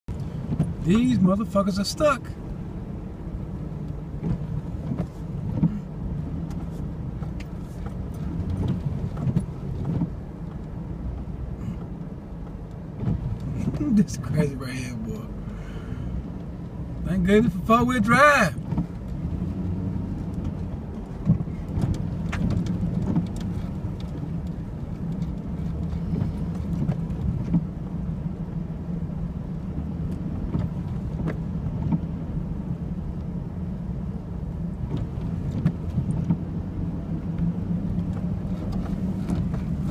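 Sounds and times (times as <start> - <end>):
pickup engine and road hum: 0.1 - 39.9.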